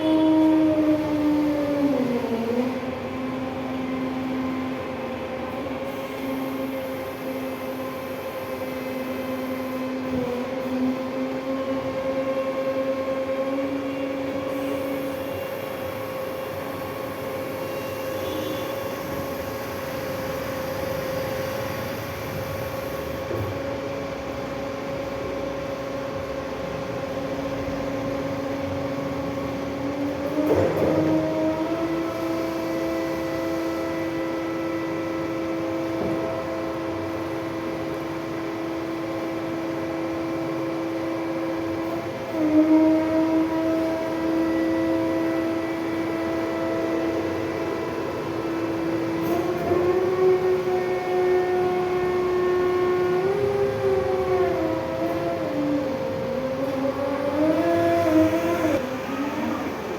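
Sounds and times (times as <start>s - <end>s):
forklift mechanical whine: 0.0s - 59.9s.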